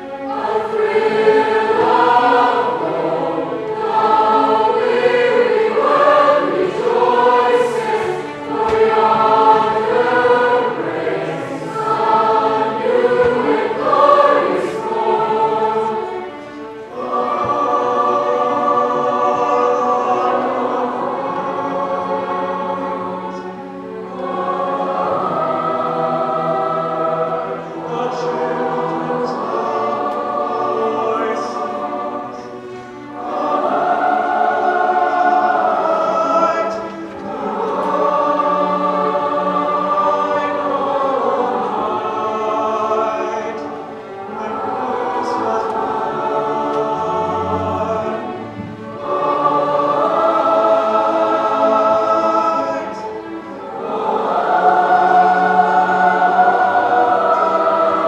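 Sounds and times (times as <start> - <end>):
choir singing: 0.0 - 58.0
string orchestra: 0.0 - 58.0.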